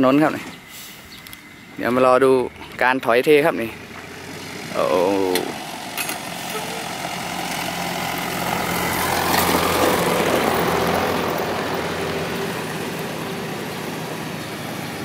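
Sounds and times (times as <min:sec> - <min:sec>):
diesel truck engine reversing: 0:00.0 - 0:15.0.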